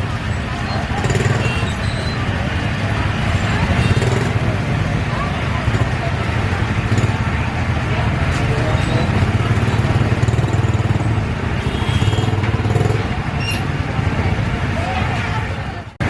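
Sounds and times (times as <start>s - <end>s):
motorcycle engine running: 0.0s - 15.2s
street and market noise: 0.0s - 16.0s.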